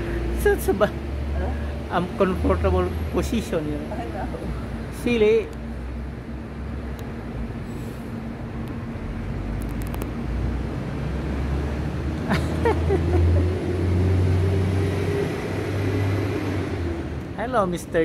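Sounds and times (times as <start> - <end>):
motor vehicle engine rumble: 0.0 - 18.0.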